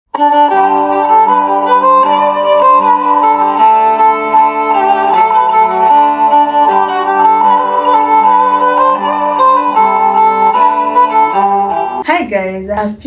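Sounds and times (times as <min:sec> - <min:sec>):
bowed string melody: 0:00.2 - 0:12.0.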